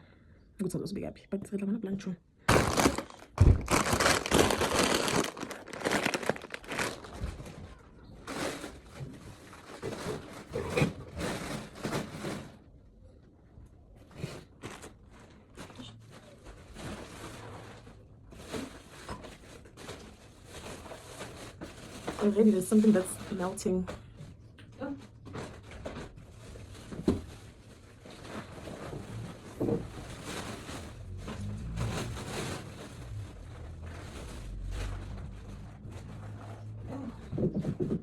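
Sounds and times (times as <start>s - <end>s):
plastic bags crinkling: 2.5s - 12.5s, 14.2s - 24.0s, 25.1s - 36.8s.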